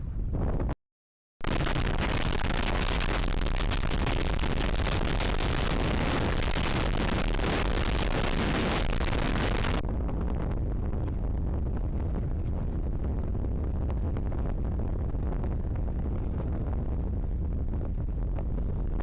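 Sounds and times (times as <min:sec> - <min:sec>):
wind buffeting microphone: 0:01.4 - 0:19.0.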